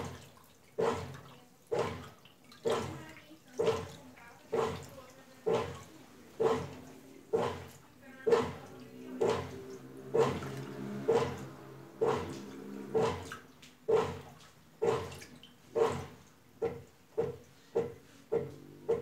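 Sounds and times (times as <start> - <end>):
washing machine motor whir: 0.0 - 19.0
water sloshing: 0.0 - 19.0.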